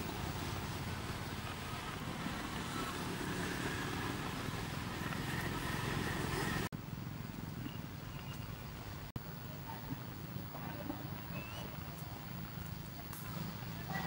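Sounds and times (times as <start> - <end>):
outdoor low rumble with hiss: 0.0 - 14.0.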